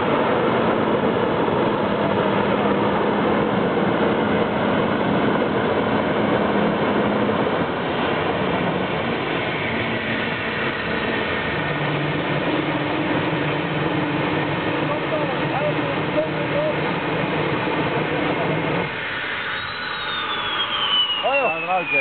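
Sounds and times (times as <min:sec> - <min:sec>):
jet engine roar with whine: 0:00.0 - 0:22.0.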